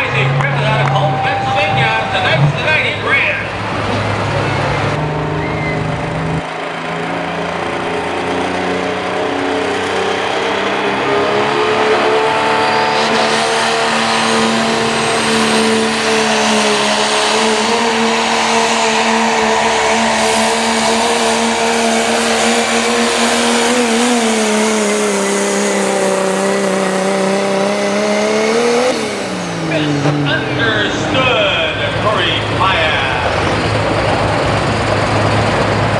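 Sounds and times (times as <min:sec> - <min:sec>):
diesel pickup engine at full throttle: 0:00.0 - 0:35.9.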